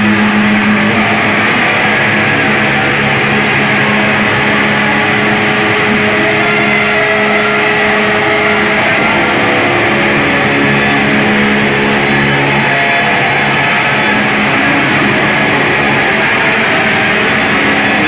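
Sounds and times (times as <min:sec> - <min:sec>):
distorted noise wall: 0:00.0 - 0:18.0
droning tones: 0:00.0 - 0:18.0.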